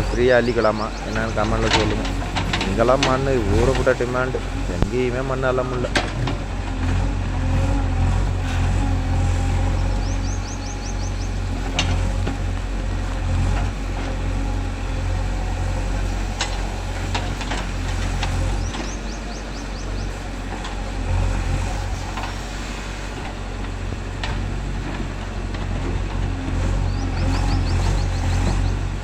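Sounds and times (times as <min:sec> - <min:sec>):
heavy diesel engines running: 0:00.0 - 0:29.0.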